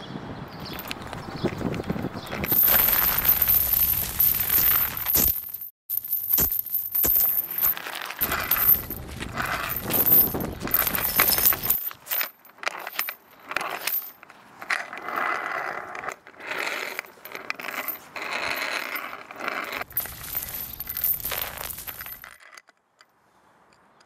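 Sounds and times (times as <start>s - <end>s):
heavy chain dragged on pavement: 0.6s - 22.7s.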